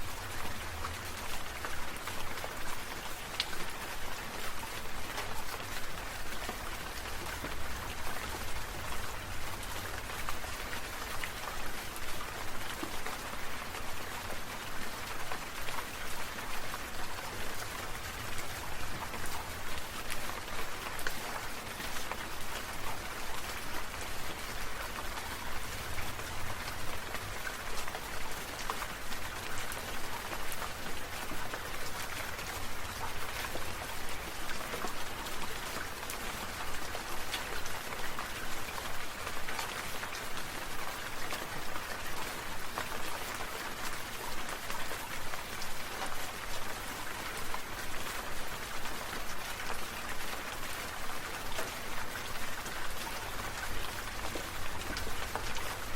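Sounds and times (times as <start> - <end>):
rain pattering on hard surface: 0.0 - 55.9.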